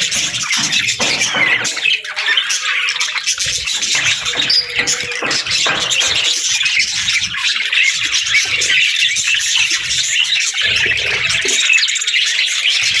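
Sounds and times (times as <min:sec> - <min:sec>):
many birds chirping: 0:00.0 - 0:13.0.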